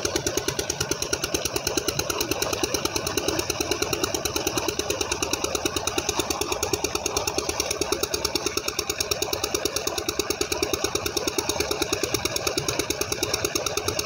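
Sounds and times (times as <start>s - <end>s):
water gushing and splashing: 0.0s - 14.0s.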